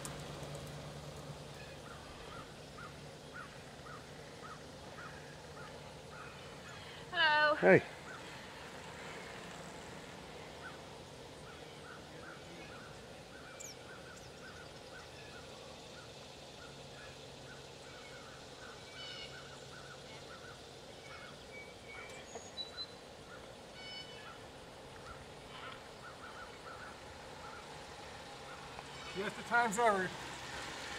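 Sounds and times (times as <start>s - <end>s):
birds chirping: 0.0s - 30.1s
higher bird calls: 1.5s - 9.2s, 10.4s - 29.4s.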